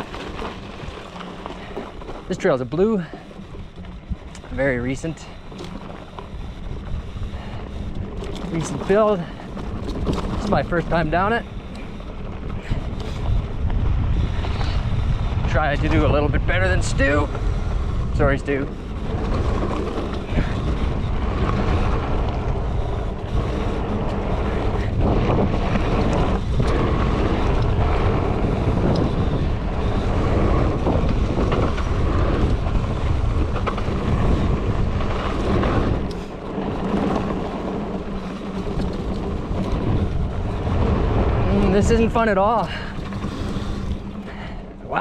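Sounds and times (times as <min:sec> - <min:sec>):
bike tyres on dirt: 0:00.0 - 0:45.0
wind rushing over microphone: 0:00.0 - 0:45.0.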